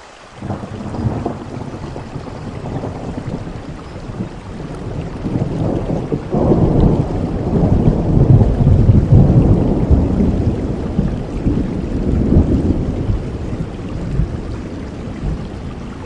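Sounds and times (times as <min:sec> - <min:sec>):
steady rain: 0:00.0 - 0:16.0
thunder rumbling: 0:00.4 - 0:16.0.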